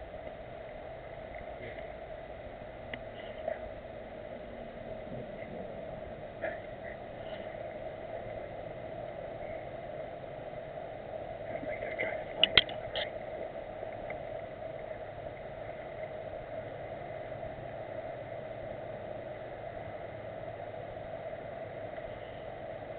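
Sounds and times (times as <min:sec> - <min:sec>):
steady background hiss: 0:00.0 - 0:22.9.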